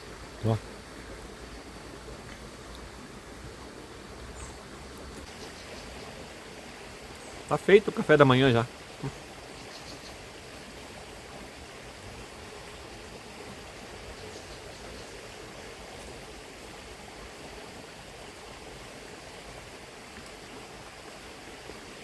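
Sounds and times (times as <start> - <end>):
shallow river rushing: 0.0 - 22.0.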